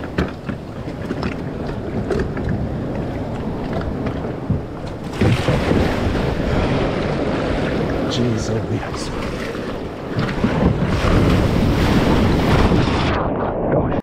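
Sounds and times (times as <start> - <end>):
water washing around kayak: 0.0 - 14.0
wind buffeting microphone: 0.0 - 14.0.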